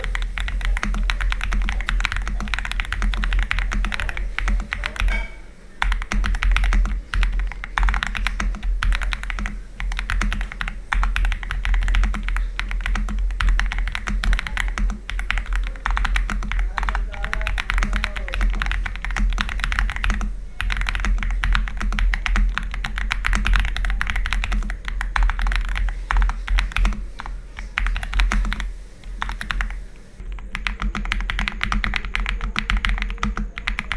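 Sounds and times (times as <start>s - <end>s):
mechanical keyboard typing: 0.0s - 33.9s.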